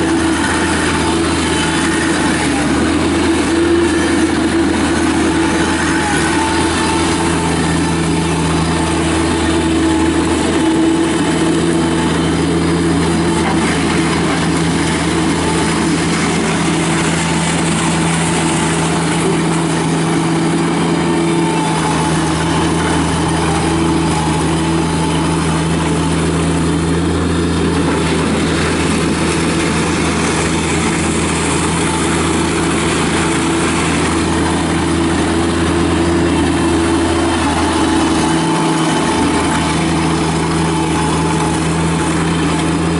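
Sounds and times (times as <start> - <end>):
diesel engine running steadily: 0.0 - 42.9.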